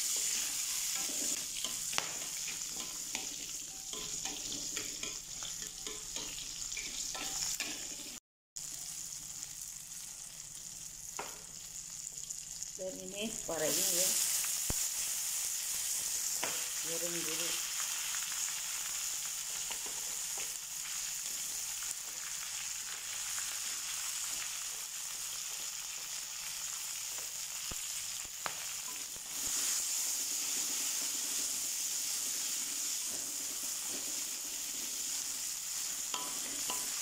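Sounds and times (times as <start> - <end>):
vegetables sizzling in hot oil: 0.0 - 37.0.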